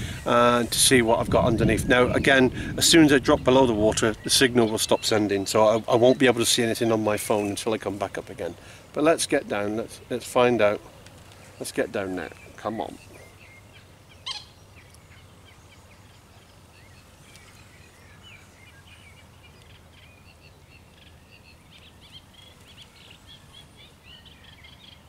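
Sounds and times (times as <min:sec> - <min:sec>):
low outdoor background noise: 0:00.0 - 0:25.0
small birds chirping: 0:00.0 - 0:25.0.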